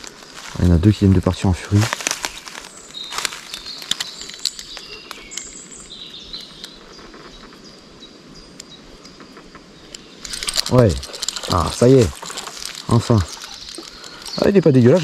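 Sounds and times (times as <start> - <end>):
faint clicks and rustles: 0.0 - 7.8, 8.5 - 15.0
small birds chirping: 0.0 - 15.0.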